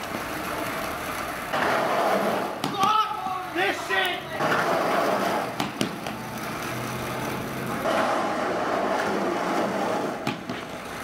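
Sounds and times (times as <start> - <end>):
skateboard clacks: 0.0 - 11.0
skateboard wheels rolling on pavement: 0.0 - 11.0.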